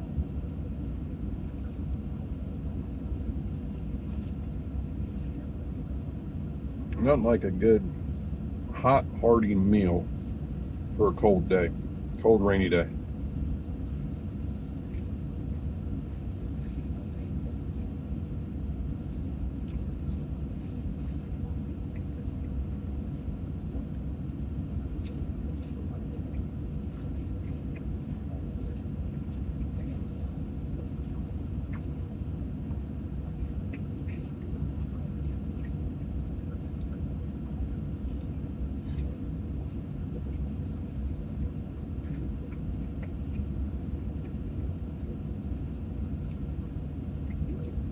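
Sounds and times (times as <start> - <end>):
faint hum: 0.0 - 47.9
steady low rumble: 0.0 - 47.9.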